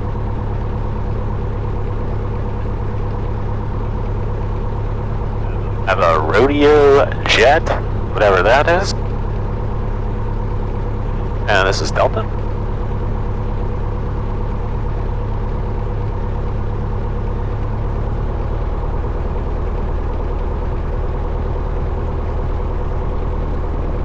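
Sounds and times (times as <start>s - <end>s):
small plane engine droning: 0.0s - 24.0s.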